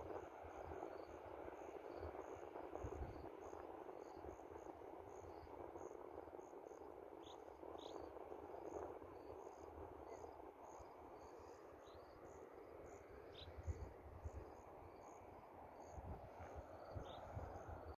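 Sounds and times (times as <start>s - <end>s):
crickets chirping: 0.0s - 17.9s
low steady hiss: 0.0s - 17.9s.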